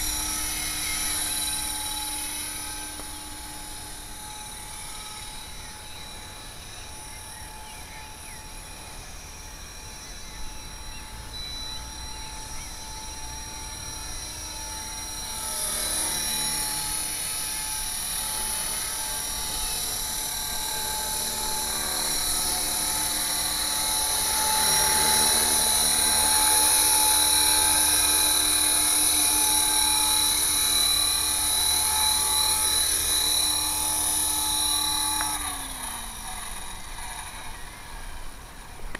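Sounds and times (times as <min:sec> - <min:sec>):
rc helicopter whine: 0:00.0 - 0:38.9.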